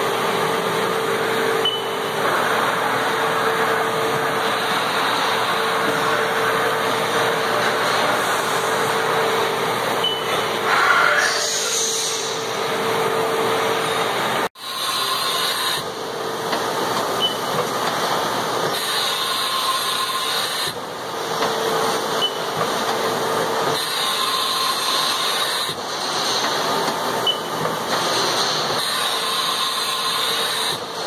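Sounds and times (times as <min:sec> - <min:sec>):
milling machine whirring hiss: 0:00.0 - 0:31.0.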